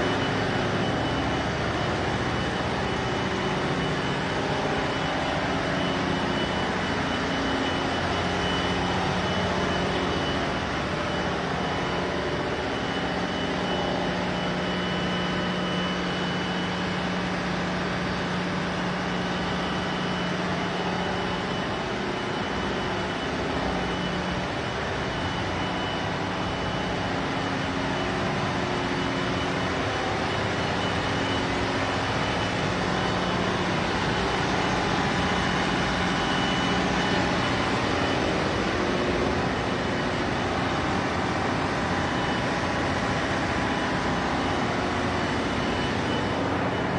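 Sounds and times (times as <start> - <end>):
engine room machinery din: 0.0 - 46.9
thin high whine: 0.0 - 46.9.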